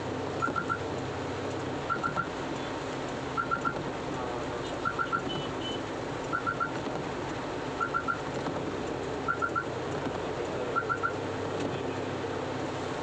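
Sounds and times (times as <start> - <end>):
rain and wet road noise: 0.0 - 13.0
windscreen wipers sweeping: 0.0 - 13.0.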